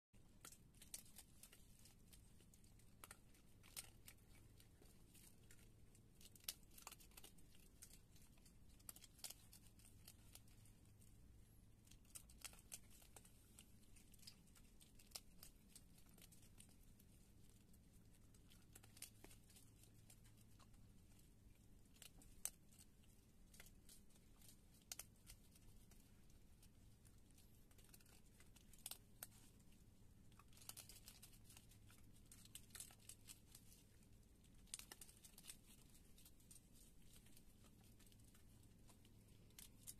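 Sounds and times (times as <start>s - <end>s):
animal crunching dry kibble: 0.2s - 39.9s
faint low hum: 0.2s - 39.9s.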